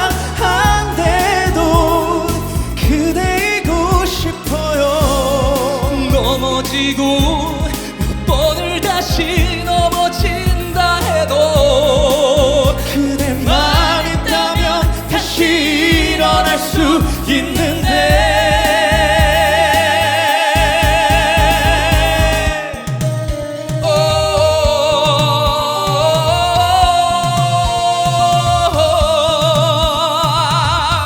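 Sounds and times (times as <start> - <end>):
band accompaniment: 0.0 - 31.0
men singing ballad duet: 0.0 - 31.0.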